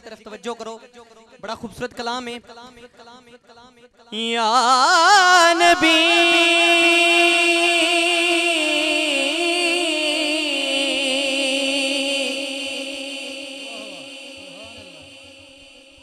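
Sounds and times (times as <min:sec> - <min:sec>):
man reciting through sound system: 0:00.0 - 0:16.0.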